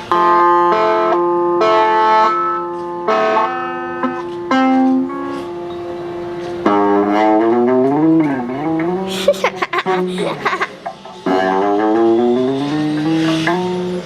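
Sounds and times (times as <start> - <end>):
plucked guitar notes: 0.0 - 14.0.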